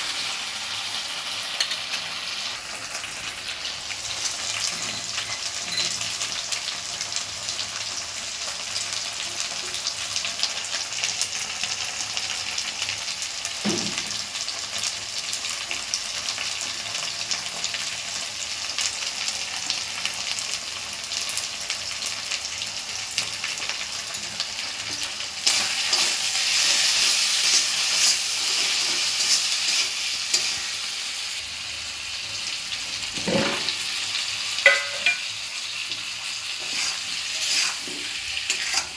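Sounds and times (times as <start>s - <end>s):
masala sizzling in oil: 0.0s - 38.9s.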